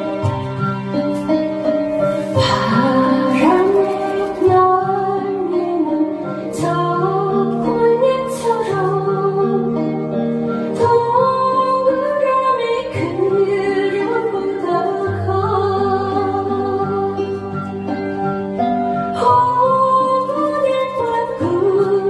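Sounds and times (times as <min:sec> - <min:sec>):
instrumental accompaniment: 0:00.0 - 0:22.0
woman singing into a microphone: 0:02.2 - 0:18.4, 0:19.0 - 0:22.0.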